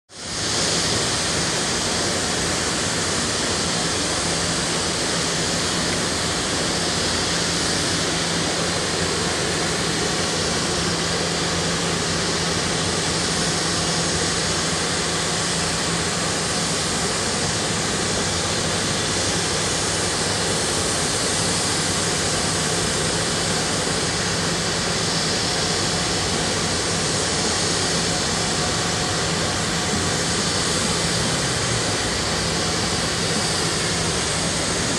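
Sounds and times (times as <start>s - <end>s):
paper mill industrial roar: 0.1s - 34.9s.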